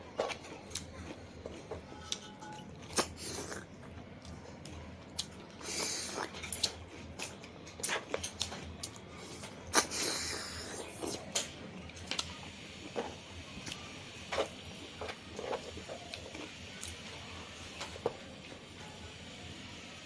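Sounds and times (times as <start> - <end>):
crunching chewing: 0.1 - 18.3.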